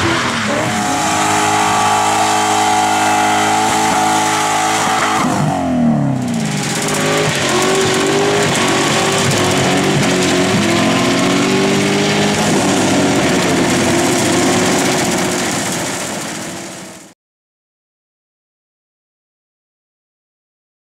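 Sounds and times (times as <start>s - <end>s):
rally car engine at full throttle: 0.0s - 17.1s.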